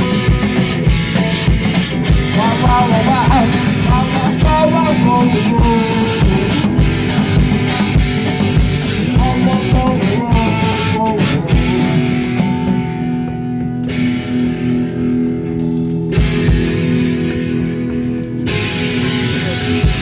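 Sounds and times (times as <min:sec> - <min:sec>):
distorted electric guitar: 0:00.0 - 0:20.0
drums with kick drum beat: 0:00.0 - 0:20.0
lead guitar bending notes: 0:00.0 - 0:20.0.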